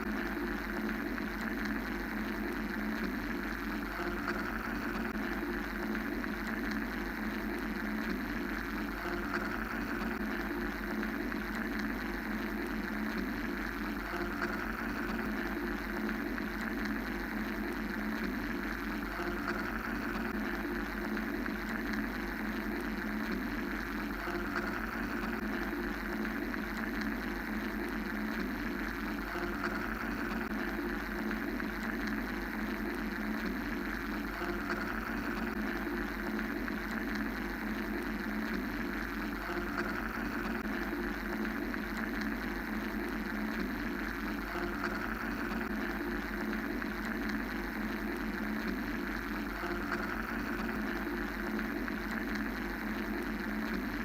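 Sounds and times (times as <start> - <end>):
mechanical white-noise drone: 0.0 - 54.0.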